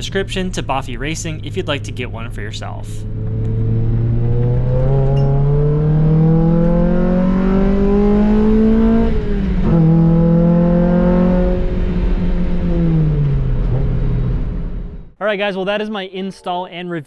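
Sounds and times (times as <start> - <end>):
car engine accelerating: 0.0 - 15.2.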